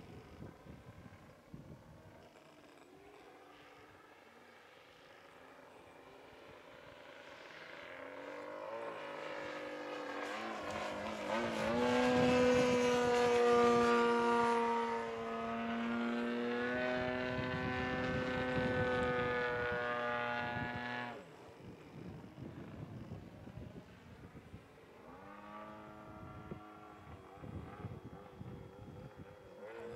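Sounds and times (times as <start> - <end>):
model plane engine running hard: 0.0 - 29.9.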